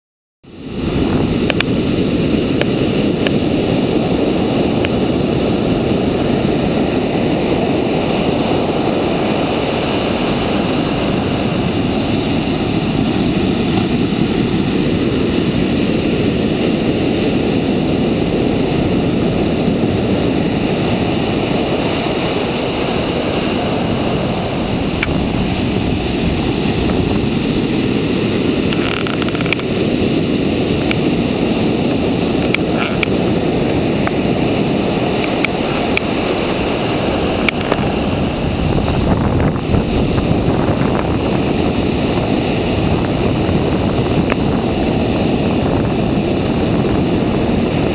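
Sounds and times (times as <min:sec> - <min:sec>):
ocean surf breaking on sand: 0:00.5 - 0:47.9.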